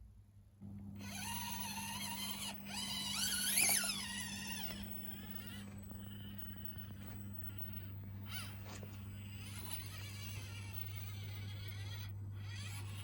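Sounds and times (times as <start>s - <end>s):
small electric motor whining: 0.8s - 13.0s.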